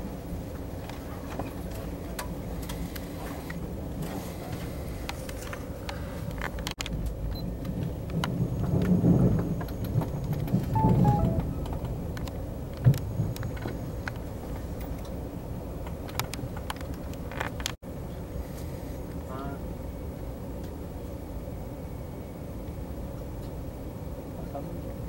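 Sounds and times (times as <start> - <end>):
train carriage rumbling on track: 0.0 - 25.0.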